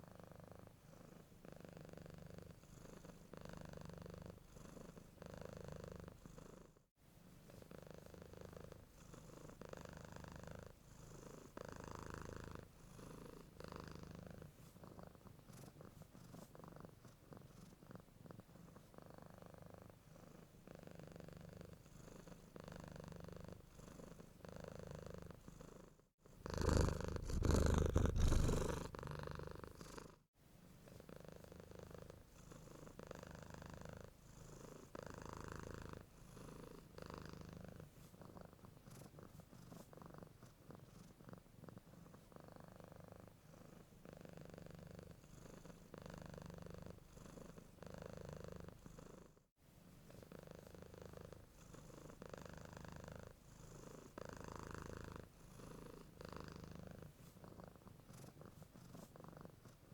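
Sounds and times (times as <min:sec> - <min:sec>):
cat purring: 0:00.0 - 0:06.8, 0:07.4 - 0:49.4, 0:50.0 - 0:59.9.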